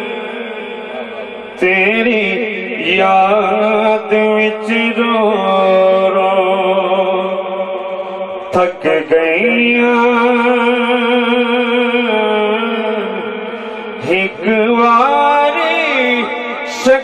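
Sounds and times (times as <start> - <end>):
man chanting into microphone: 0.0 - 17.0.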